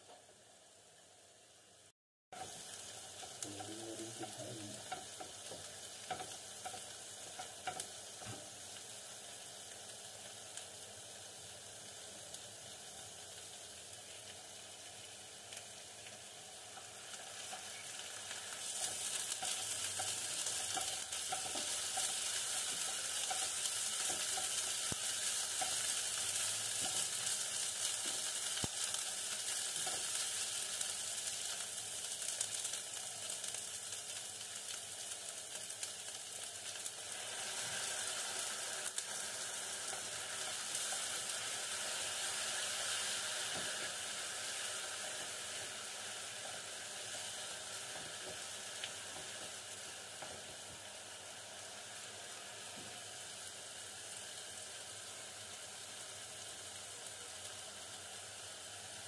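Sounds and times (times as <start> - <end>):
onions sizzling in oil: 0.0 - 59.0.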